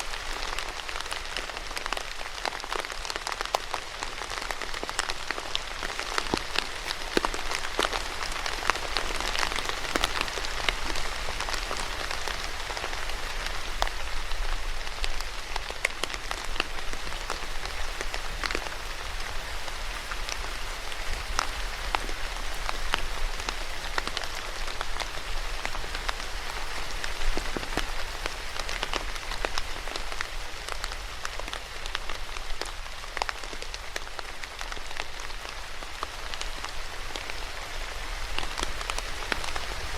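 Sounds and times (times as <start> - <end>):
rain on a hard surface: 0.0 - 39.9
raindrop ticks and patters: 0.0 - 39.9.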